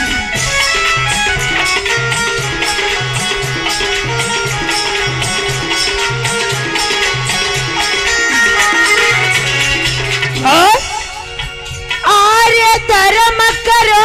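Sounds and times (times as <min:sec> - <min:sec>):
dholak beat: 0:00.0 - 0:14.0
harmonium melody: 0:00.0 - 0:14.0.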